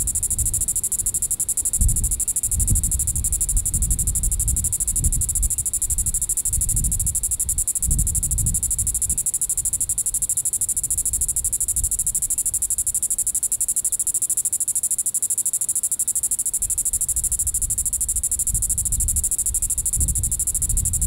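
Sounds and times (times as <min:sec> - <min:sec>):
cicada buzzing: 0:00.0 - 0:21.0.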